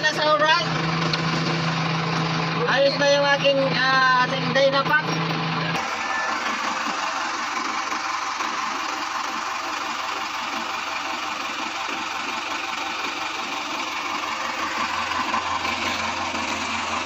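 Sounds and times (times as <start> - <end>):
diesel engine clattering: 0.0 - 17.0.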